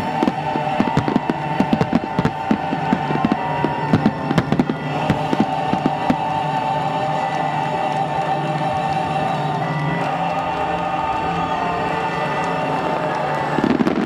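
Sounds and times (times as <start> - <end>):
fireworks bursting and crackling: 0.0 - 14.0
sustained music: 0.0 - 14.0.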